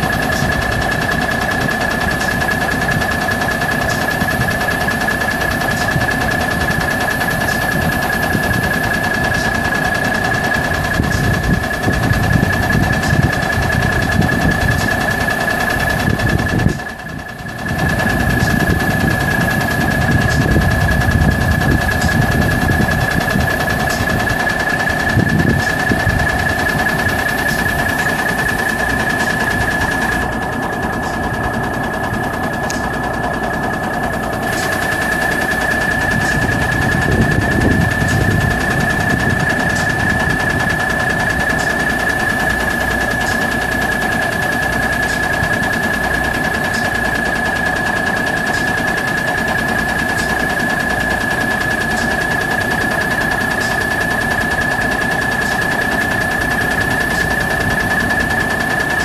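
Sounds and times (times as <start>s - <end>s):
diesel truck engine idling: 0.0s - 59.0s
high-pitched whine: 0.0s - 59.0s.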